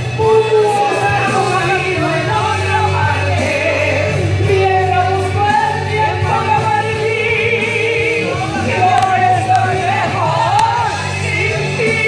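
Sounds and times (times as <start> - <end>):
loud pop backing music: 0.0 - 12.0
woman singing into a microphone: 0.0 - 12.0.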